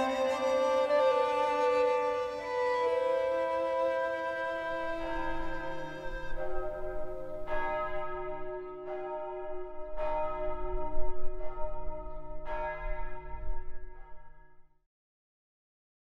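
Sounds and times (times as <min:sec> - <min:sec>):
church bells ringing: 0:00.0 - 0:14.5.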